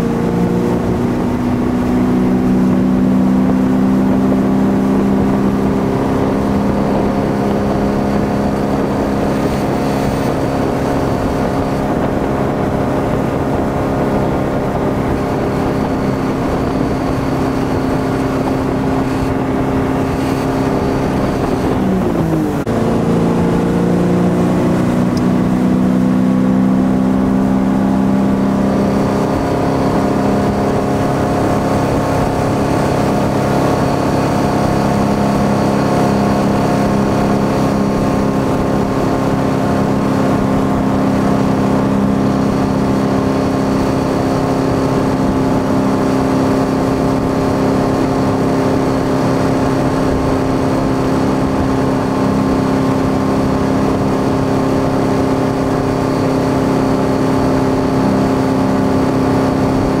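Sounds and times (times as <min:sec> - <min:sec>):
boat engine running: 0:00.0 - 1:00.0
rush of the wake: 0:00.0 - 1:00.0.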